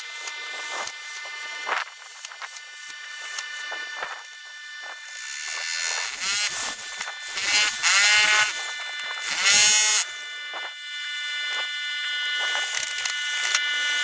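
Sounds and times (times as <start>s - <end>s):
electric drill boring into brick: 0.0s - 14.0s.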